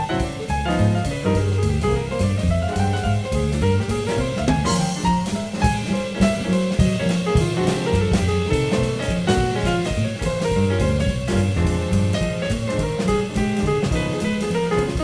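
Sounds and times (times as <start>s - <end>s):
double bass: 0.0s - 15.0s
piano: 0.0s - 15.0s.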